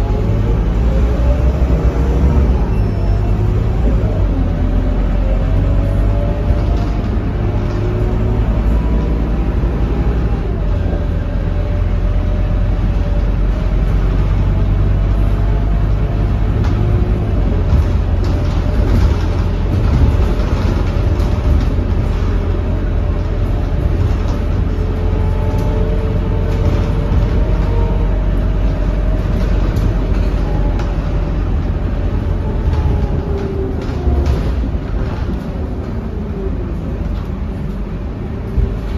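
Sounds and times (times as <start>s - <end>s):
bus diesel engine rumble: 0.0s - 38.9s
road noise: 0.0s - 38.9s.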